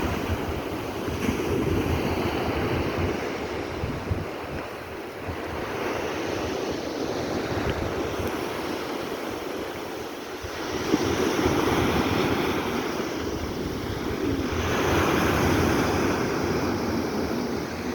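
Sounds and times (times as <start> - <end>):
surf washing onto shore: 0.0 - 17.9
wind buffeting microphone: 0.0 - 17.9.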